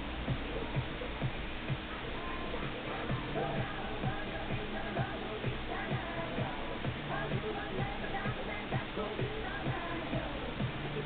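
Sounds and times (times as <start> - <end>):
music with low thumping beat: 0.0 - 11.0.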